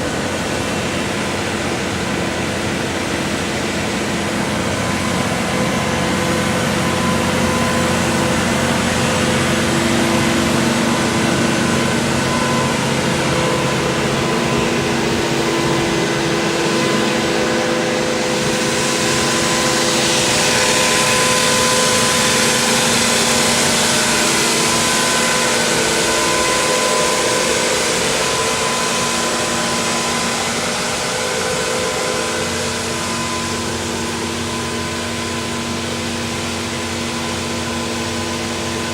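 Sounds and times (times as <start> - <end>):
concrete pump engine running: 0.0 - 38.9
hiss: 0.0 - 38.9.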